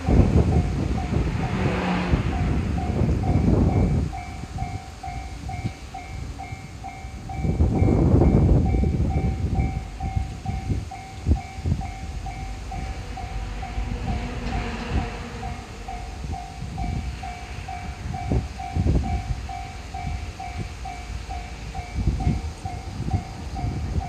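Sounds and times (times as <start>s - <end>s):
railroad crossing bell dinging: 0.0s - 24.0s
train rumble: 0.0s - 24.0s.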